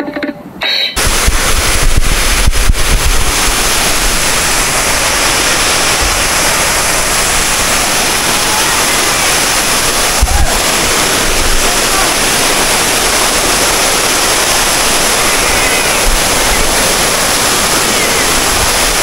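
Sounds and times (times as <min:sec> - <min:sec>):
waterfall roaring: 0:01.0 - 0:19.0.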